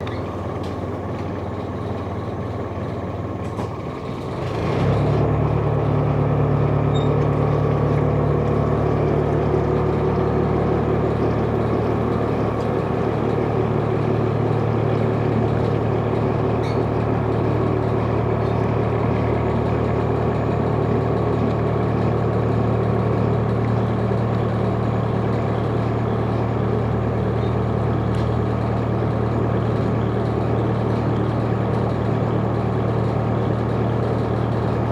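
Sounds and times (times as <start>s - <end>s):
boat engine drone: 0.0s - 34.9s.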